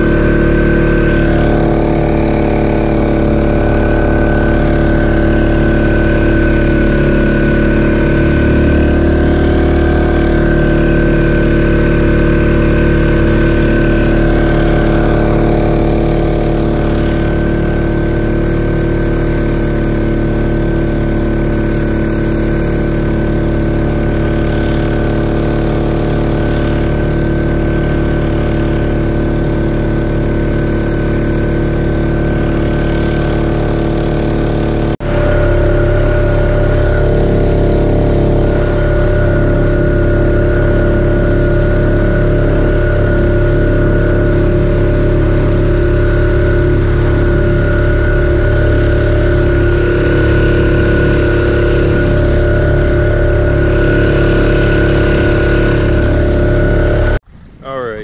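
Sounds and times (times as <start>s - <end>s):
jet kayak engine running: 0.0s - 58.0s.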